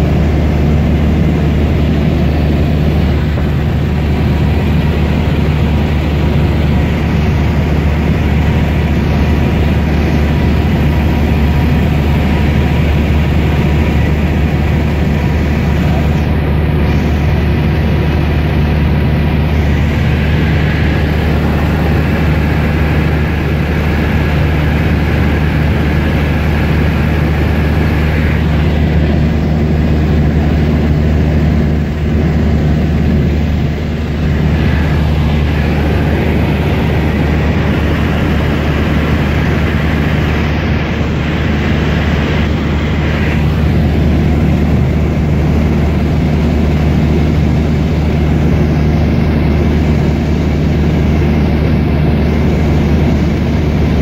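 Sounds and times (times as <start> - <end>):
airplane engine droning in cabin: 0.0 - 54.0.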